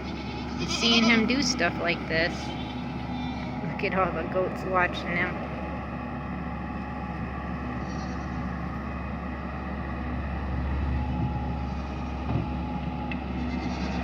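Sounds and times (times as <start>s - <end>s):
work machine engine running: 0.0s - 14.0s.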